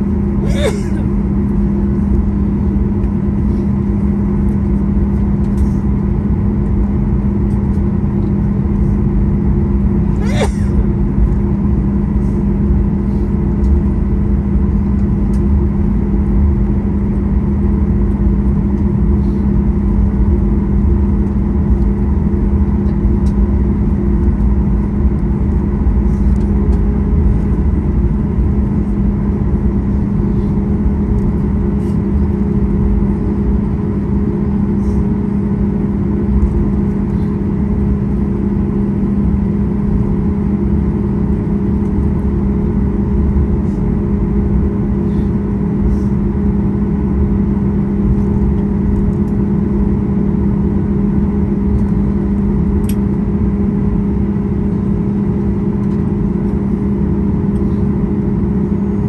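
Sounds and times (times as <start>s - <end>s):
aircraft engine hum: 0.0s - 59.0s.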